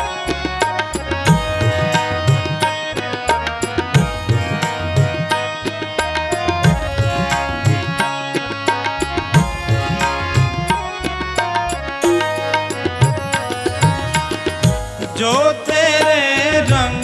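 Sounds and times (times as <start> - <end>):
held melodic notes: 0.0 - 17.0
steady drum rhythm: 0.0 - 17.0.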